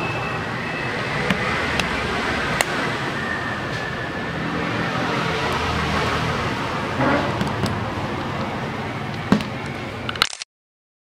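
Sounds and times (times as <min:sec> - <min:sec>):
road traffic noise: 0:00.0 - 0:10.4.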